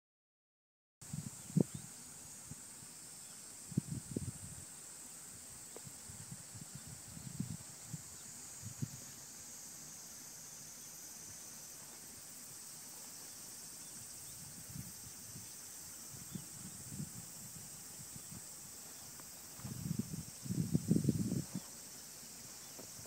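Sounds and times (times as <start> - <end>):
high-pitched insect chorus: 1.0 - 23.0.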